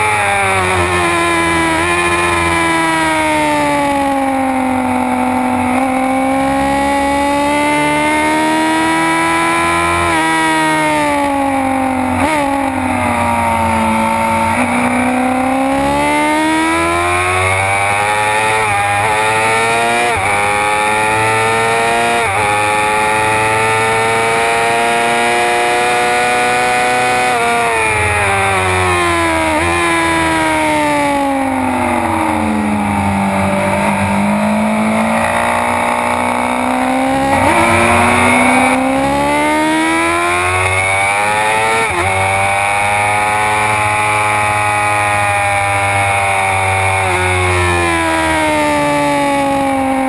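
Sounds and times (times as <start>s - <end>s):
motorcycle engine at high revs: 0.0s - 50.0s.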